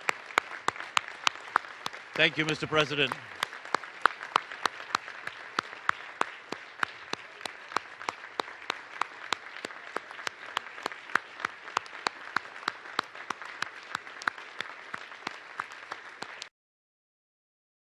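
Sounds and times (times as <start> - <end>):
audience applauding: 0.0 - 16.5.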